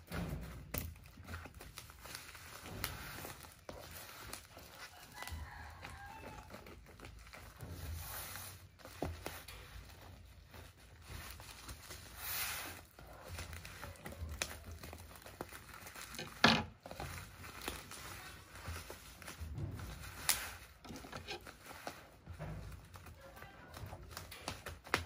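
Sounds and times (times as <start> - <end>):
plastic wrapping crinkling: 0.0 - 25.0.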